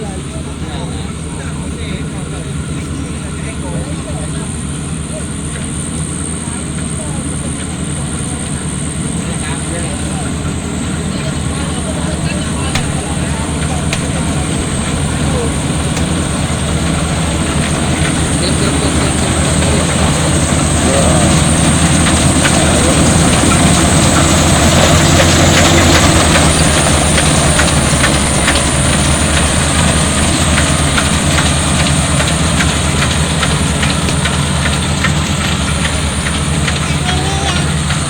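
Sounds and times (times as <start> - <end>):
combine harvester engine drone: 0.0 - 38.0
machinery clicks: 6.7 - 38.0.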